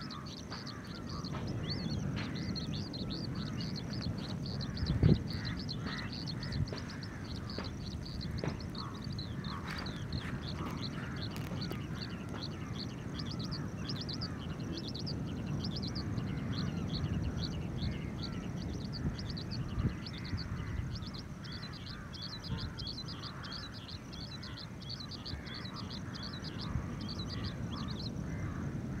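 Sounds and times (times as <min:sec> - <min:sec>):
skylark chirping: 0:00.0 - 0:28.7.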